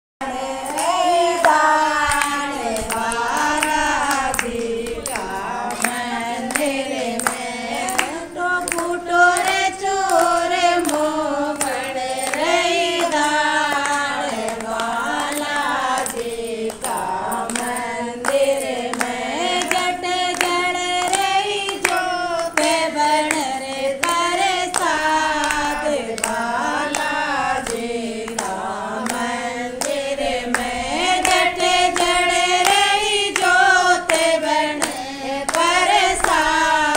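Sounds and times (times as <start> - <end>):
person singing devotional song: 0.2 - 36.9
rhythmic hand clapping: 0.2 - 36.9.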